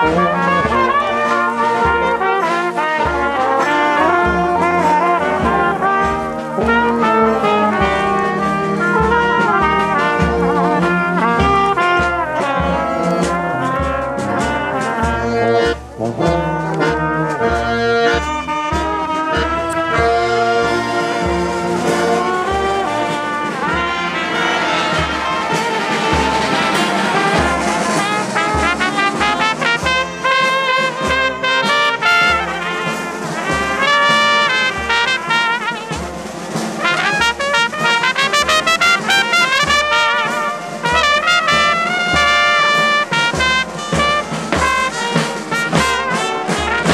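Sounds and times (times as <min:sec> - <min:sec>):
accordion: 0:00.0 - 0:46.9
brass marching band: 0:00.0 - 0:46.9
hand drums beating: 0:00.0 - 0:46.9.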